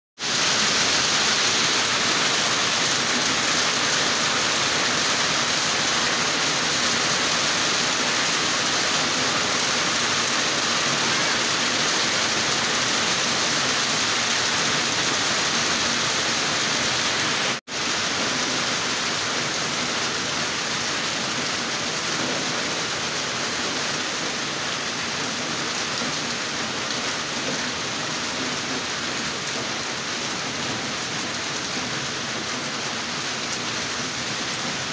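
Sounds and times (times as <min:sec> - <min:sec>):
heavy rain on foliage: 0:00.2 - 0:34.9.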